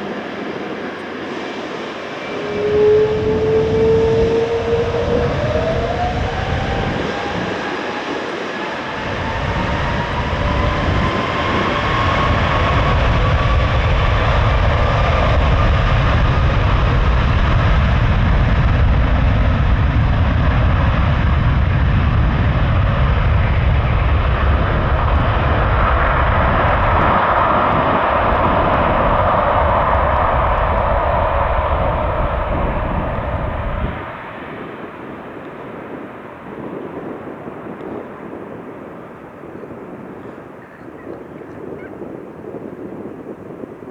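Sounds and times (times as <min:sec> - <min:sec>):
jet engine roar at take-off: 0:00.0 - 0:43.9.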